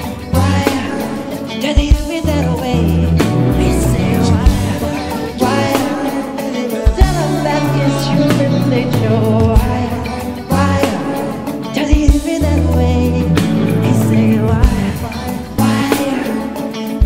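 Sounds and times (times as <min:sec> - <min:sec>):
live band playing pop ballad: 0:00.0 - 0:17.0
person singing: 0:00.0 - 0:17.0.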